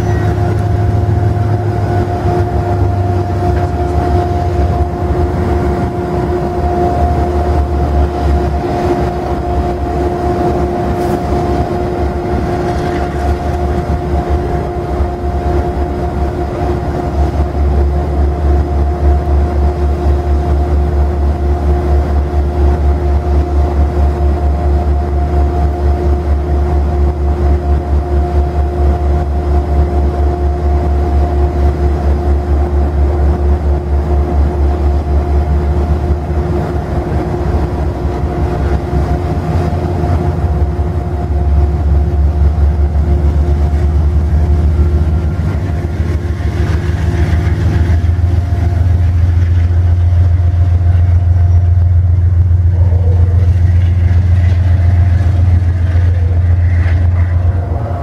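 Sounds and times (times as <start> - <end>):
diesel locomotive engine running: 0.0 - 58.0
steady whine: 0.0 - 58.0.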